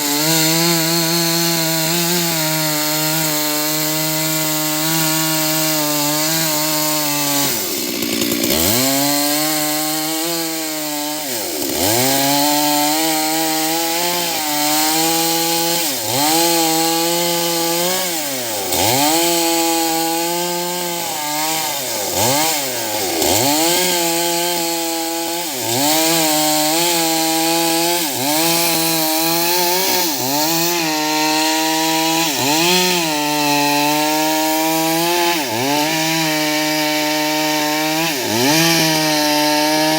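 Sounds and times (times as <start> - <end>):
chainsaw cutting into tree: 0.0 - 39.9.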